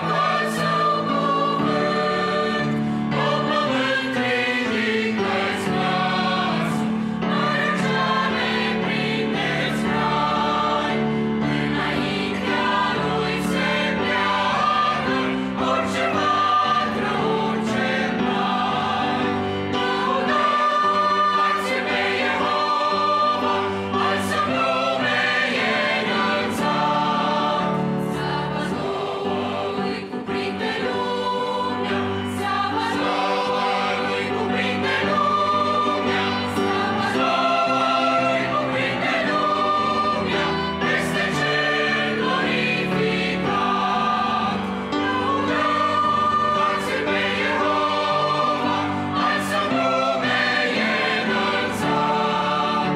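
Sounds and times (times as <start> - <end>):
mixed choir singing a hymn: 0.0 - 52.9
piano accompaniment: 0.0 - 52.9.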